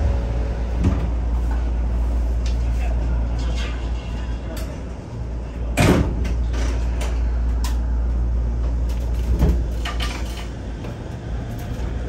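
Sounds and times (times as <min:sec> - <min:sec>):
monorail car low rumble: 0:00.0 - 0:12.0.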